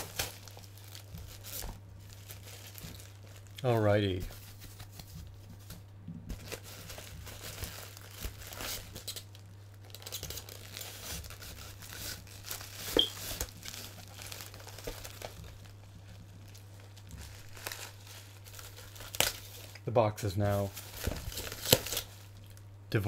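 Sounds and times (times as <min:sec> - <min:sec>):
bubble wrap and cardboard crinkling: 0:00.0 - 0:22.6.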